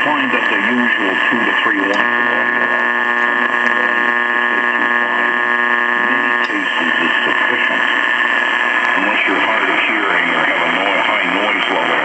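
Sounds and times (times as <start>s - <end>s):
power-line noise buzz: 0.0s - 12.0s
voice over radio: 0.0s - 12.0s.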